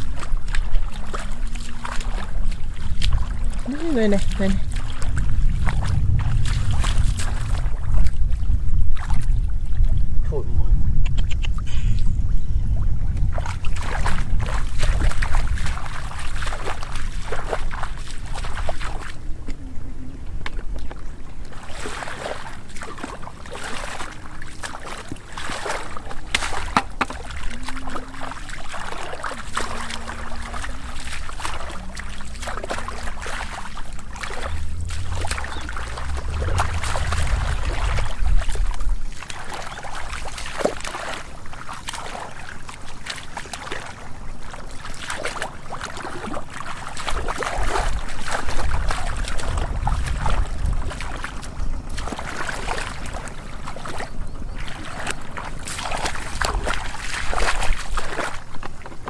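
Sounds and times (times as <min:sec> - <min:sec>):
muddy water splashing: 0:00.0 - 0:59.0.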